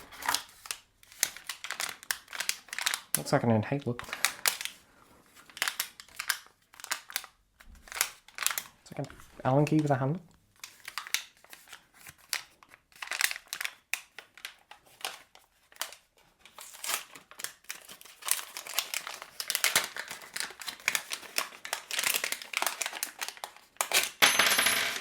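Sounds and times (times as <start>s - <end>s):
packaging crinkling and rustling: 0.0s - 24.2s.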